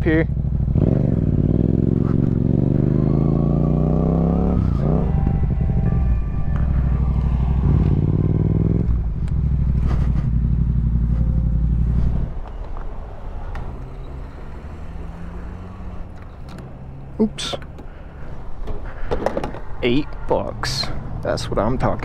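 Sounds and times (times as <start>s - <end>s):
motorcycle engine: 0.0s - 19.8s.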